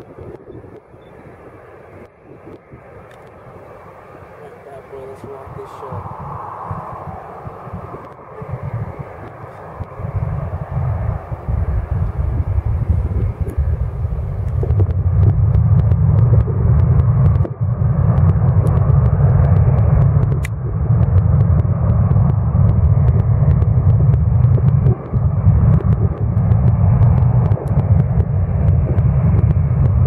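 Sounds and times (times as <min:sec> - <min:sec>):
jet engines at high power: 0:00.0 - 0:30.0.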